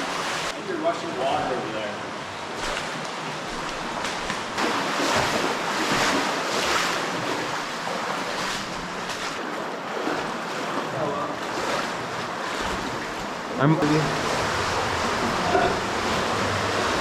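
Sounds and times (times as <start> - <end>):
underground stream rushing: 0.0 - 17.0.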